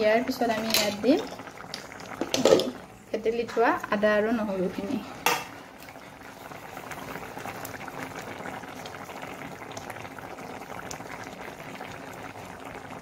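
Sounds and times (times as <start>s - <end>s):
pot boiling and bubbling: 0.0s - 13.0s.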